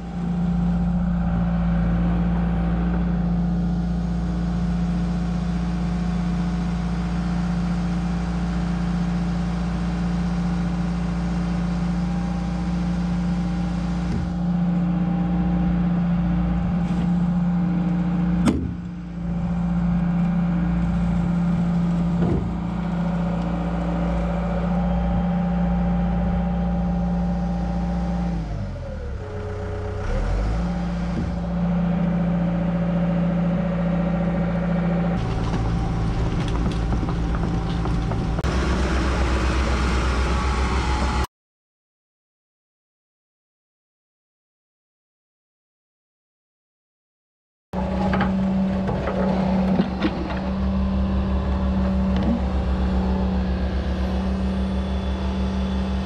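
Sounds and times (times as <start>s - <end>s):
excavator diesel engine running: 0.0s - 41.3s, 47.8s - 56.0s.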